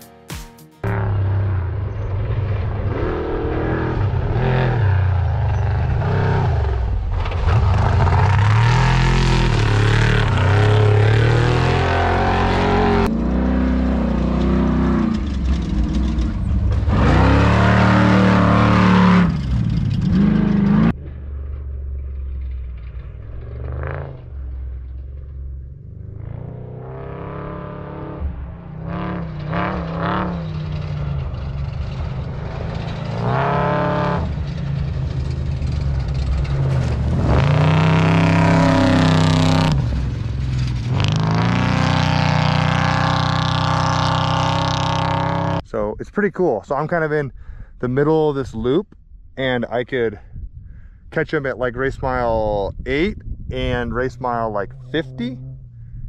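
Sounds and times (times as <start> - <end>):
race vehicle engines revving: 0.8 - 45.6, 53.6 - 55.9.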